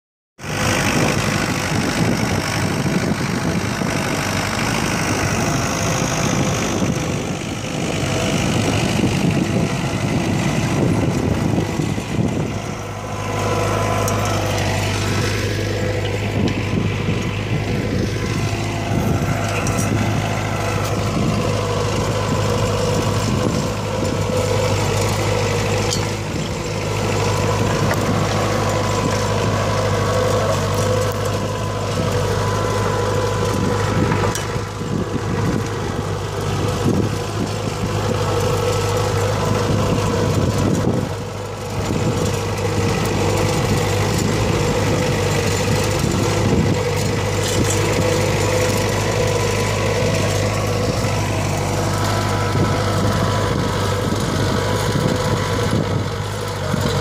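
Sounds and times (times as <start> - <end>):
tractor diesel engine under load: 0.4 - 57.0.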